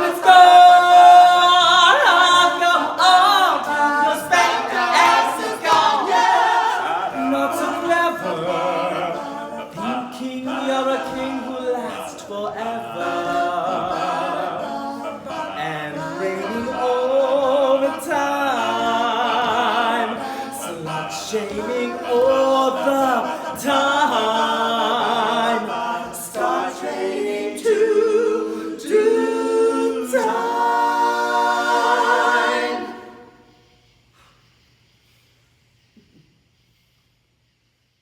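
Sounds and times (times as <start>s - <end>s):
male quartet singing in harmony: 0.0s - 33.7s.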